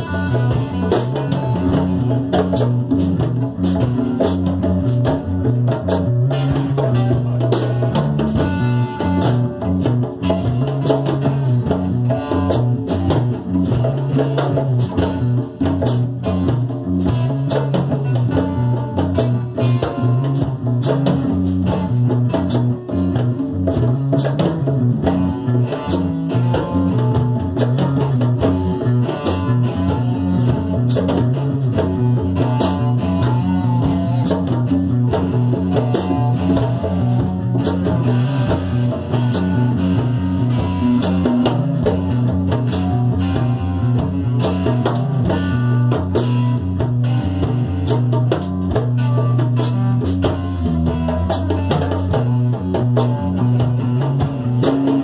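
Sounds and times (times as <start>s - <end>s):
bass line: 0.0s - 55.0s
djembe drumming: 0.0s - 55.0s
electric guitars: 0.0s - 55.0s.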